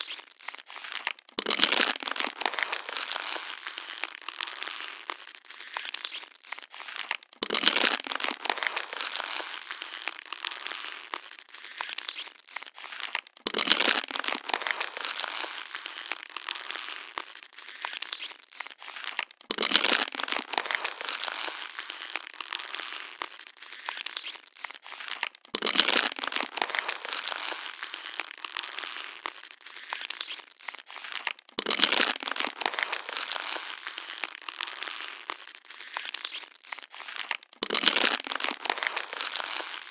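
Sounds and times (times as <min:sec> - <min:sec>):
plastic bottle crinkling: 0:00.0 - 0:39.9
plastic bottle crunch: 0:00.0 - 0:39.9.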